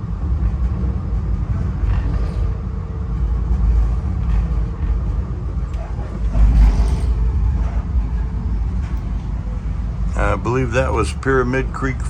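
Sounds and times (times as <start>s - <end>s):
rail car rumble: 0.0s - 12.0s.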